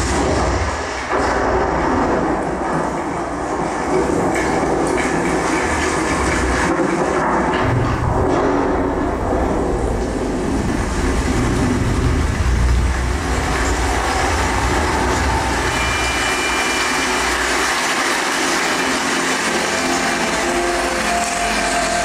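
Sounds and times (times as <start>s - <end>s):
film soundtrack rumbling effects: 0.0s - 22.0s.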